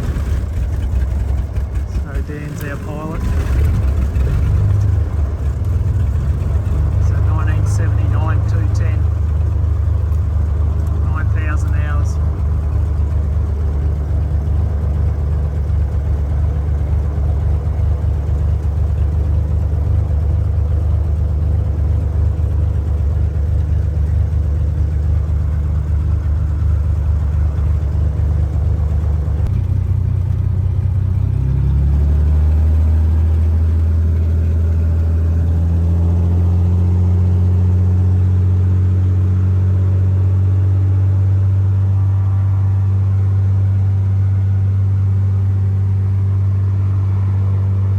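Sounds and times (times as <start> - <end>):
piston aircraft engine running: 0.0 - 47.9.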